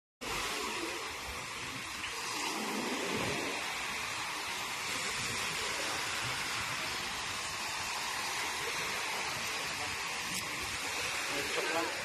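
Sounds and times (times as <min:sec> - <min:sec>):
waves breaking on a beach: 0:00.2 - 0:12.0.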